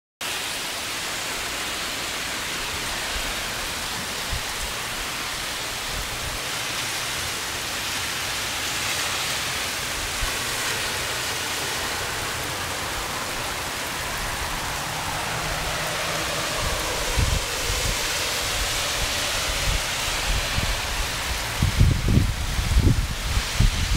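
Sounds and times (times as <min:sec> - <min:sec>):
heavy rain hissing: 0:00.2 - 0:23.9.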